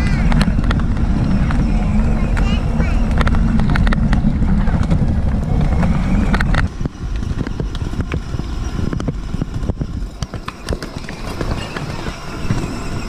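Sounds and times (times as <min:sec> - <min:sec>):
low rumble: 0:00.0 - 0:13.0
plastic wheels crunching on asphalt: 0:00.0 - 0:13.0.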